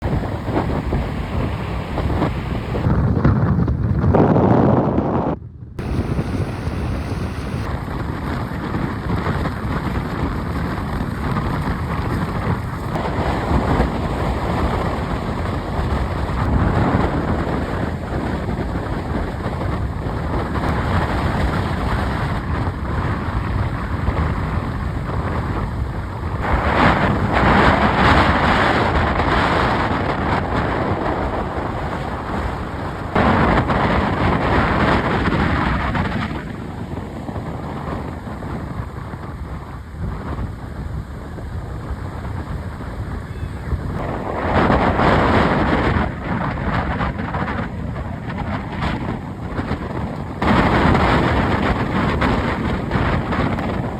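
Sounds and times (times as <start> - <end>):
strong wind buffeting microphone: 0.0 - 53.9.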